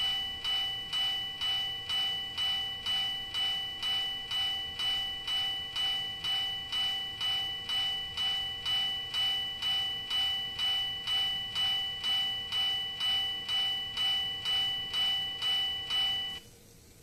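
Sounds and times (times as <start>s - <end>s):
level crossing warning bell: 0.0s - 16.4s.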